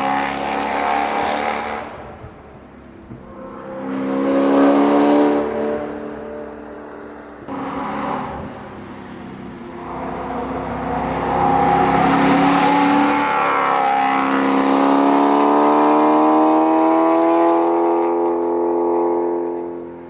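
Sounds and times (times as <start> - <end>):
car engine accelerating hard: 3.1 - 20.0.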